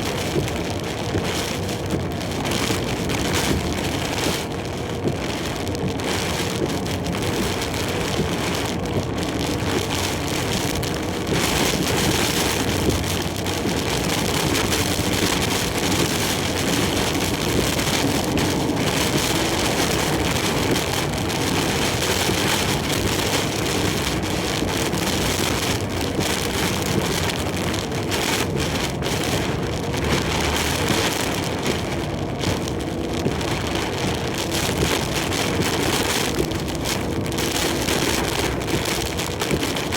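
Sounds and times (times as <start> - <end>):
engine and road noise: 0.0 - 39.9
heavy rain beating on truck: 0.0 - 39.9.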